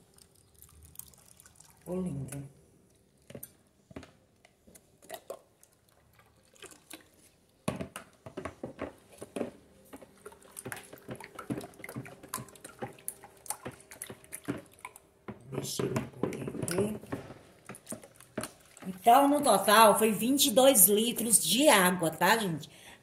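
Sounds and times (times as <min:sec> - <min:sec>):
liquid sloshing while stirred: 0:00.0 - 0:01.9, 0:02.8 - 0:19.5
liquid dripping into plastic tub: 0:00.0 - 0:19.4.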